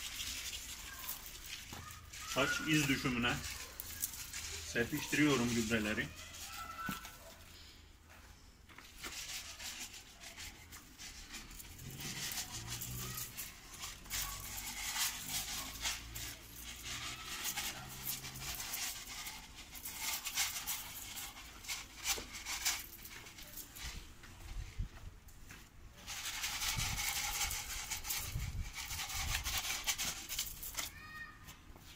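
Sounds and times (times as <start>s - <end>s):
fertilizer granules scattering: 0.0s - 7.7s, 8.8s - 24.7s, 26.0s - 31.2s.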